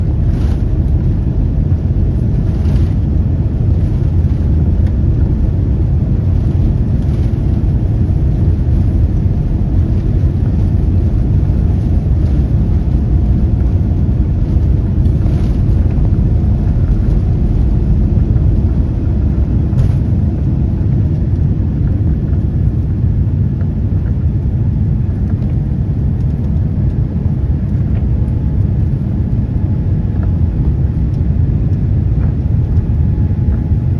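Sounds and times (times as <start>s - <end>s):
airplane takeoff rumble: 0.0s - 33.9s.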